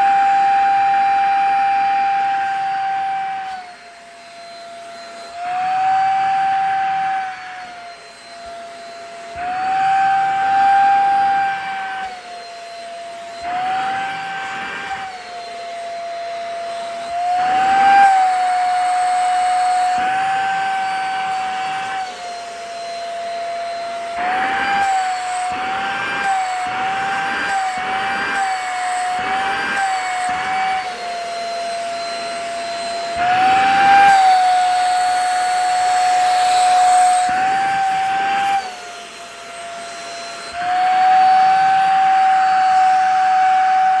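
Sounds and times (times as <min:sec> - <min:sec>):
vacuum cleaner motor whining: 0:00.0 - 0:44.0.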